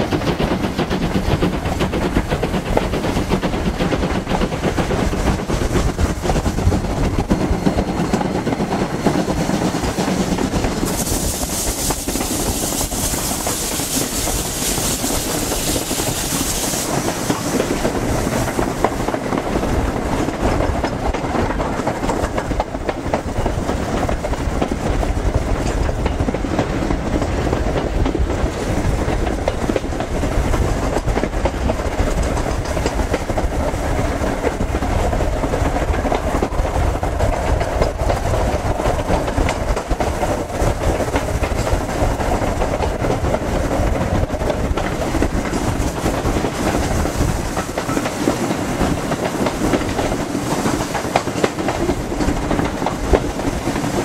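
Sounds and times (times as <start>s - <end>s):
train rumbling: 0.0s - 54.0s
wheels clickety-clack over rail joints: 0.0s - 54.0s.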